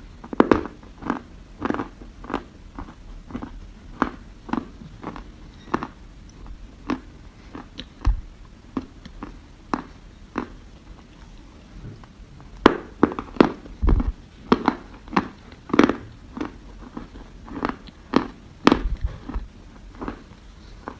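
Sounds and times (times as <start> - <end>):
crunching and chewing dry soil: 0.0 - 20.9.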